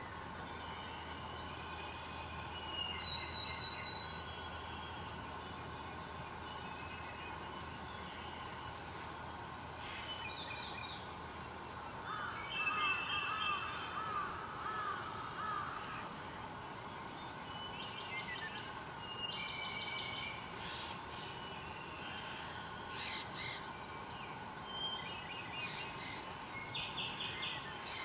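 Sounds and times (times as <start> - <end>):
background hiss: 0.0 - 28.0.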